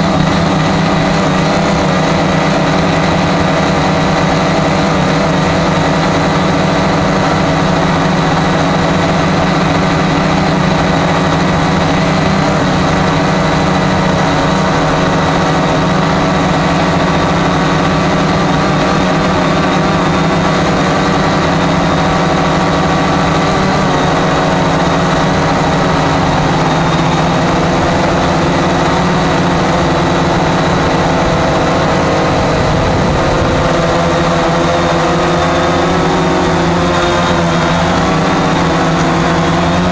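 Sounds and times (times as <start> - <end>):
quadcopter motors whirring: 0.0 - 39.9.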